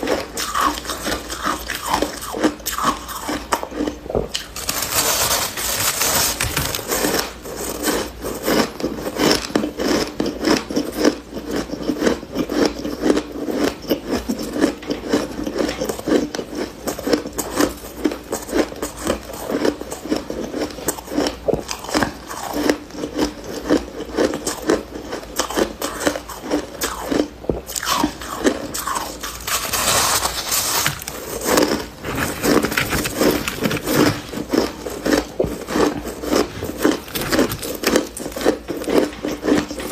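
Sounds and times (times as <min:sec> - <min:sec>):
frost being bitten and chewed: 0:00.0 - 0:39.9.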